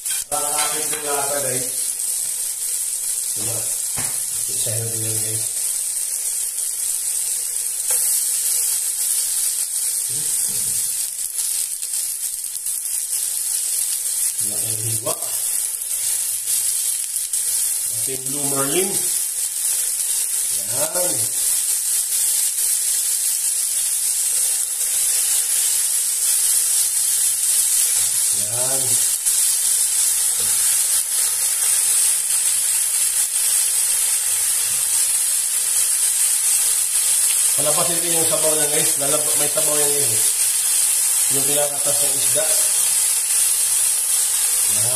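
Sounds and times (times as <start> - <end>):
food sizzling in hot oil: 0.0 - 44.9.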